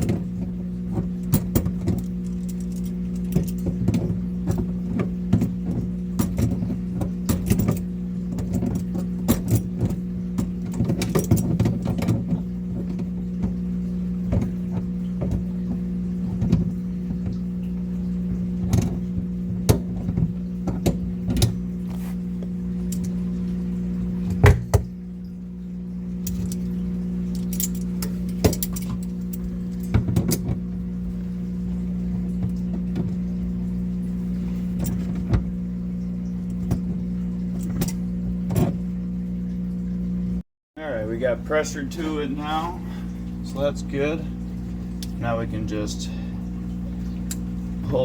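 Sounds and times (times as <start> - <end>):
low electric hum: 0.0 - 48.0.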